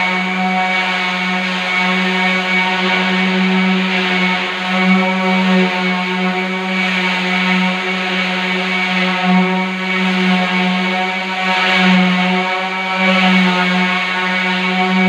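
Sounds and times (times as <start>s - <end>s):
orbital sander running: 0.0s - 15.0s.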